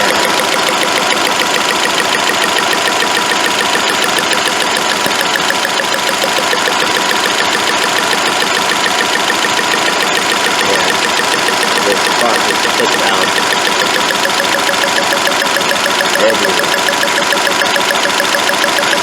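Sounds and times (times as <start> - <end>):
car engine idling with ticking: 0.0 - 19.0.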